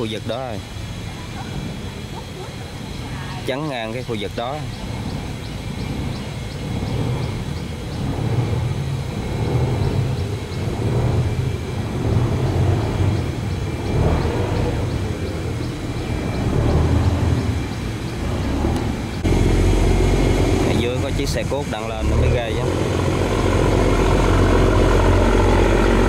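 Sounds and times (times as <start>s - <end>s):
barge diesel engine rumble: 0.0s - 26.0s.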